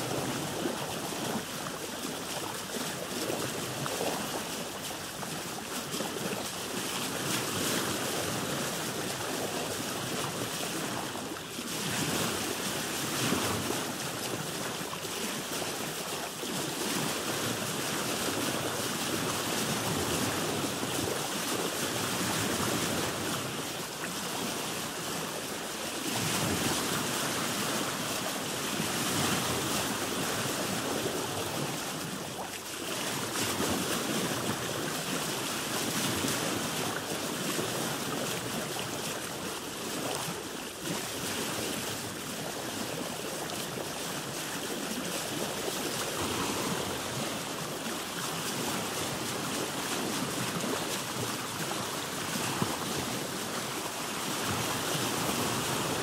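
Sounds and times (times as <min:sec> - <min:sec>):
waves splashing around a boat: 0:00.0 - 0:56.0.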